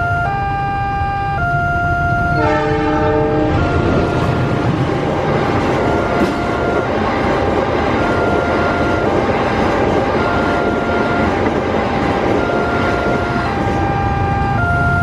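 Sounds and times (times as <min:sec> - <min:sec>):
level crossing two-tone siren: 0:00.0 - 0:07.2, 0:08.0 - 0:11.6, 0:12.3 - 0:15.0
train wheels rumbling on rails: 0:01.8 - 0:15.0.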